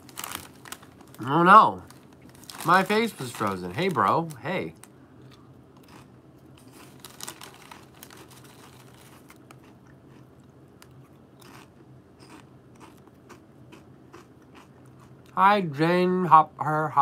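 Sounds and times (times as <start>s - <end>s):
chips being crunched and chewed: 0.0s - 15.4s
faint low hum: 0.0s - 17.0s.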